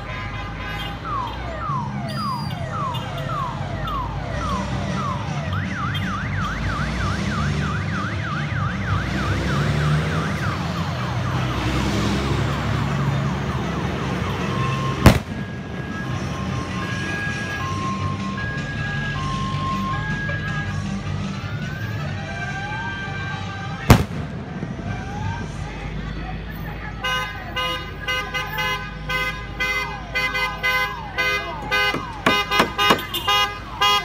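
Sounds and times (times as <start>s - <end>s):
low rumble of vehicle engines: 0.0s - 34.0s
ambulance siren wailing: 0.6s - 28.6s, 29.5s - 34.0s.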